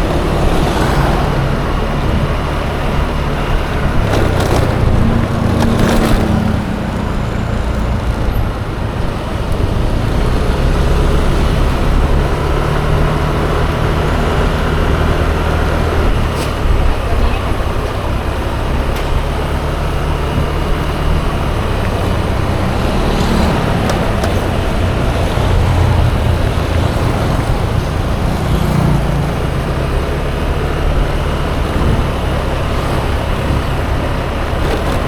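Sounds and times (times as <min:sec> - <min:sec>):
other vehicles in traffic: 0:00.0 - 0:35.0
scooter riding rumble: 0:00.0 - 0:35.0.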